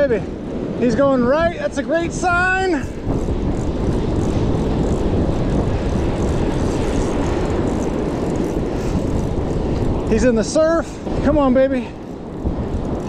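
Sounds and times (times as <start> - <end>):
breaking surf: 0.0 - 13.0
wind rumble on microphone: 0.0 - 13.0.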